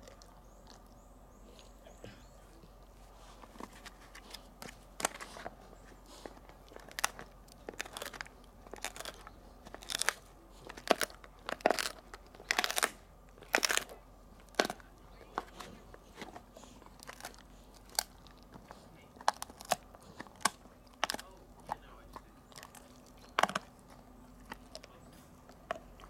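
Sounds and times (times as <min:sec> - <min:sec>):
dog chewing hard chew: 0:00.0 - 0:26.0.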